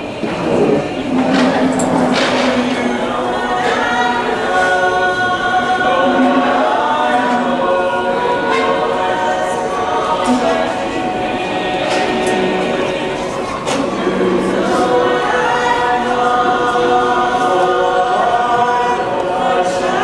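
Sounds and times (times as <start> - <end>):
group singing in harmony: 0.0 - 20.0.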